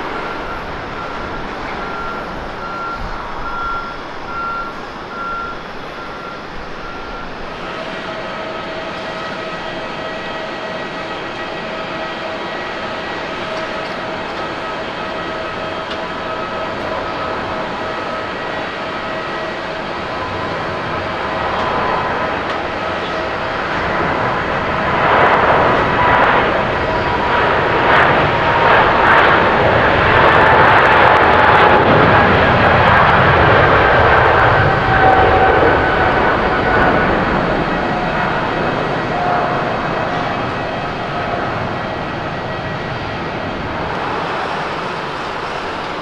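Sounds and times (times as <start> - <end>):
jet engines at takeoff thrust: 0.0 - 46.0.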